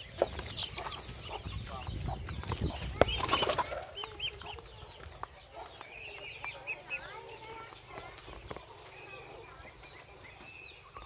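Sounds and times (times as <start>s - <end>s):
chickens clucking and peeping: 0.0s - 11.0s.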